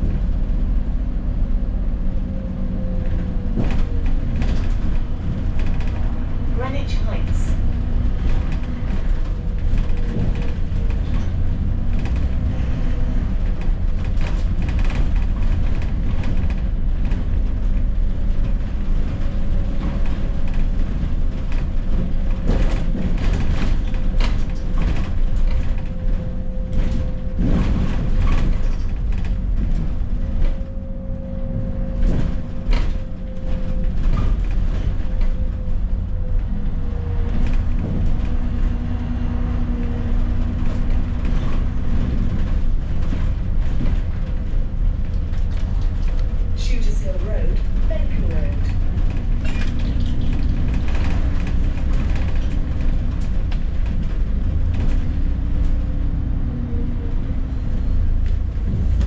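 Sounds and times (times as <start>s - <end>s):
bus engine and road drone: 0.0s - 59.0s
rattles and knocks of bus fittings: 0.0s - 59.0s.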